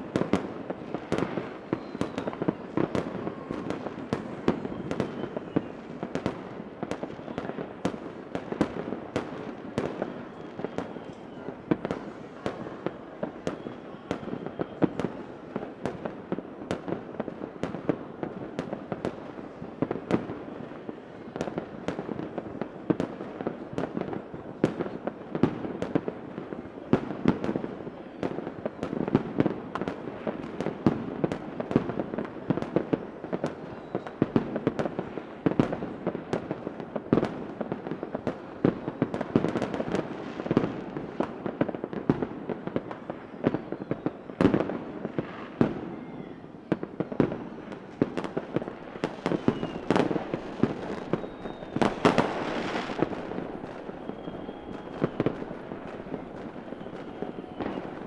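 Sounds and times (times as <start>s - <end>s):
faint fireworks whistles: 0.0s - 58.0s
fireworks bangs and crackles: 0.0s - 58.0s.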